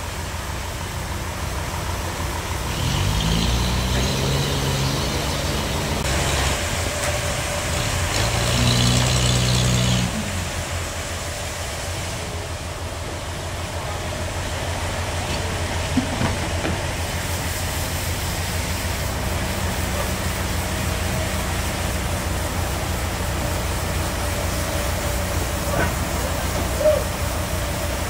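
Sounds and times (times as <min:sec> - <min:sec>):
forklift engine running: 0:00.0 - 0:28.0.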